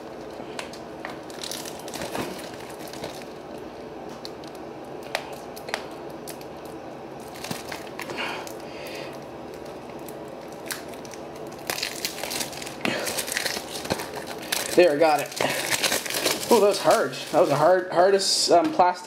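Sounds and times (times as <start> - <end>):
plastic wrap crinkling: 0.0 - 19.0.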